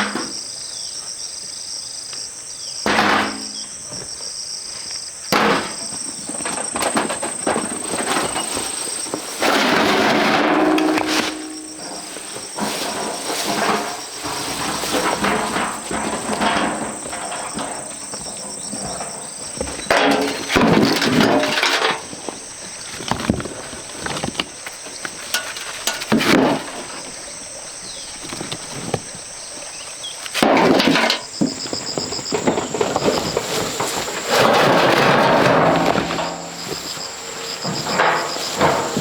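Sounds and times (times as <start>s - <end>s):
insects droning: 0.0s - 39.0s
rocks scraping and knocking: 5.4s - 39.0s.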